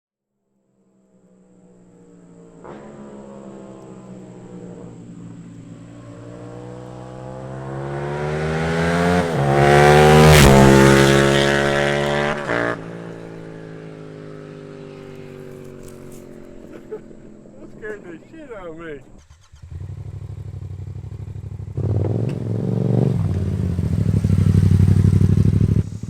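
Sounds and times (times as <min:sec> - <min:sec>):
motorcycle accelerating past: 0:01.0 - 0:26.0.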